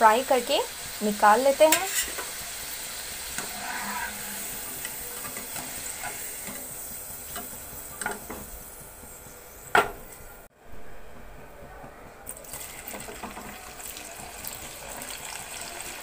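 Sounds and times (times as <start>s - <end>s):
potato strips sizzling in oil: 0.0s - 9.7s, 12.4s - 16.0s.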